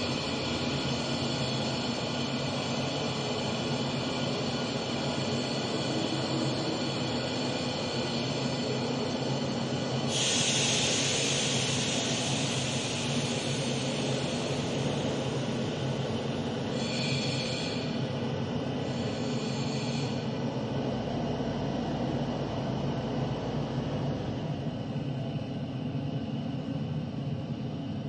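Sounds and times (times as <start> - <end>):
train rumbling by: 0.0 - 28.0.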